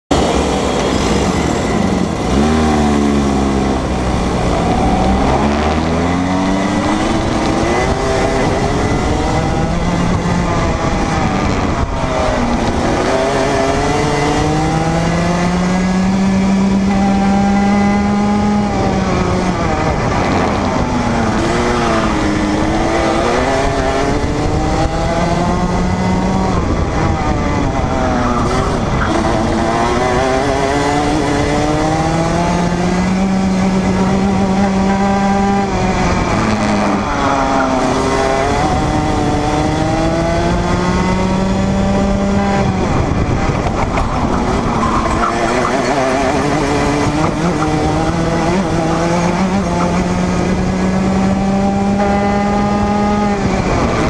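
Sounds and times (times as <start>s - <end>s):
kart two-stroke engine revving: 0.1s - 54.0s.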